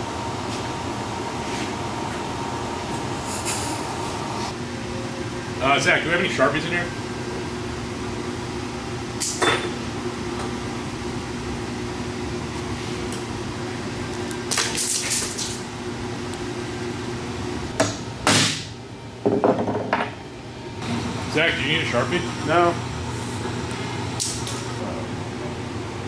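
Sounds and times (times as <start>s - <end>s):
steady shop hum: 0.0s - 26.0s.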